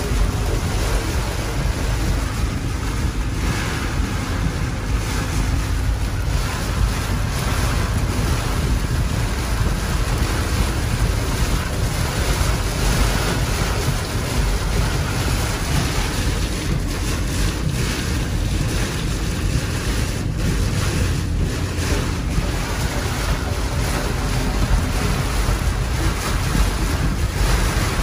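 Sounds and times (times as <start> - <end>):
heavy rain on a car: 0.0 - 28.0
wind buffeting microphone: 0.0 - 28.0.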